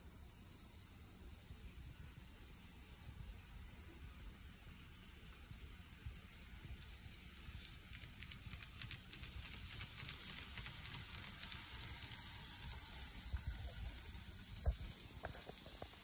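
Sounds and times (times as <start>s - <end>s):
low rumble of model train: 0.0s - 16.0s
model train clicking: 0.7s - 16.0s.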